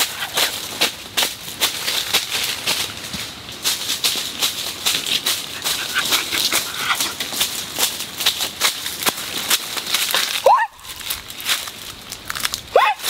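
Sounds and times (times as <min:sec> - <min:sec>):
footsteps on dry leaves: 0:00.0 - 0:13.0.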